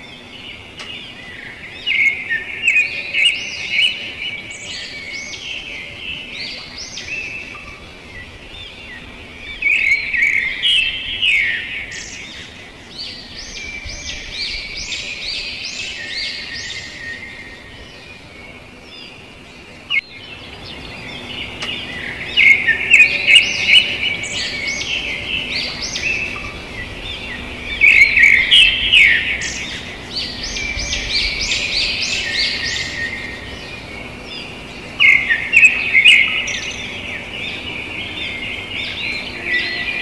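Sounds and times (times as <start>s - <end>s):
birds chirping and twittering: 0.0s - 40.0s.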